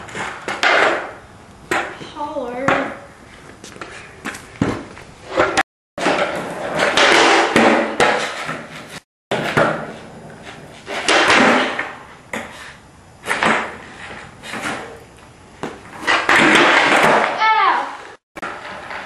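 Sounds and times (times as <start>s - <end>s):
skateboard wheels rolling: 0.0s - 19.0s.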